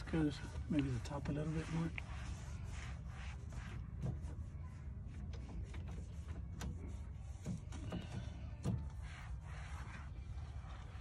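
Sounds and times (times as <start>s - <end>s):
low background rumble: 0.0s - 11.0s
rag wiping door panel: 0.0s - 11.0s.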